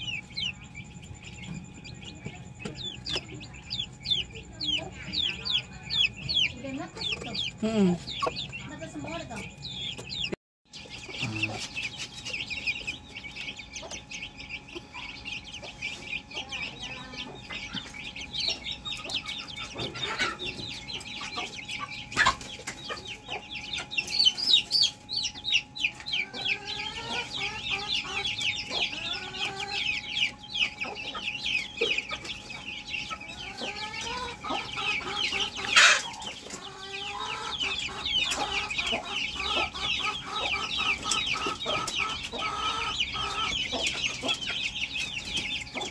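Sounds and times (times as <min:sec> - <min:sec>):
chickens clucking: 0:00.0 - 0:45.9
chicks peeping: 0:00.0 - 0:45.9.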